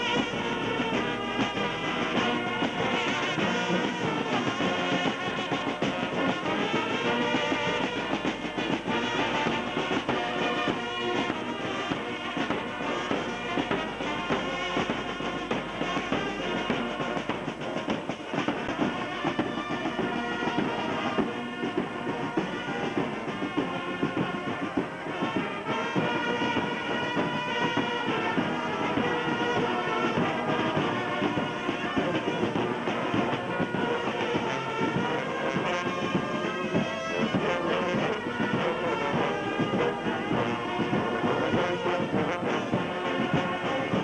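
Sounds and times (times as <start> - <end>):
brass band playing: 0.0 - 44.0.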